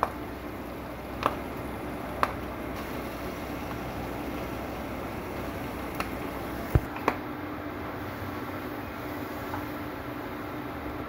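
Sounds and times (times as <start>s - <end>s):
vegetables frying in a wok: 0.0s - 6.9s, 7.9s - 11.0s.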